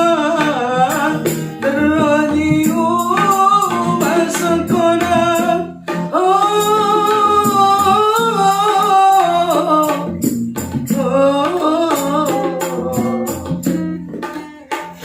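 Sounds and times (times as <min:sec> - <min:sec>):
person singing: 0:00.0 - 0:15.0
rhythmic percussion strokes: 0:00.0 - 0:15.0
steady drum beat: 0:00.0 - 0:15.0.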